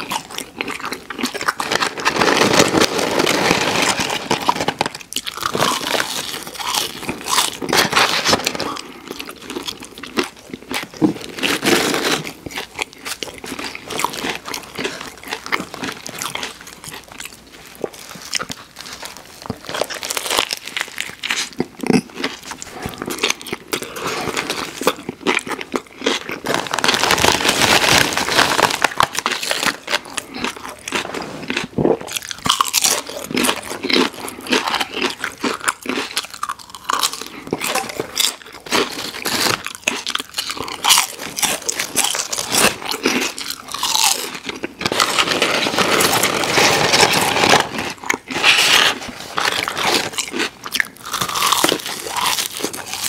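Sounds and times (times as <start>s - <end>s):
chewing sandwich: 0.0s - 53.0s
potato chip crunch: 0.0s - 53.0s.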